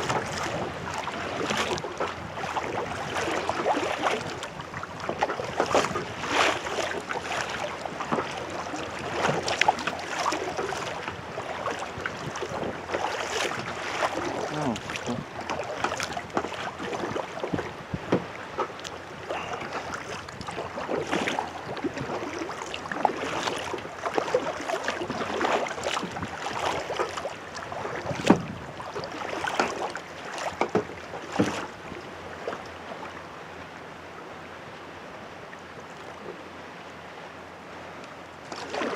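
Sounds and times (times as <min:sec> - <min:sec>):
kayak paddle splashing: 0:00.0 - 0:33.7, 0:37.8 - 0:38.9
rushing water: 0:00.0 - 0:38.9
wind: 0:00.0 - 0:38.9.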